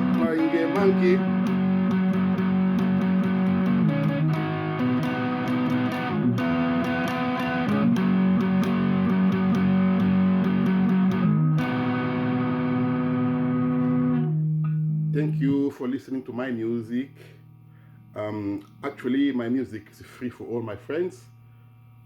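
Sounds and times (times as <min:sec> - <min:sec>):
guitar chords: 0:00.0 - 0:18.8.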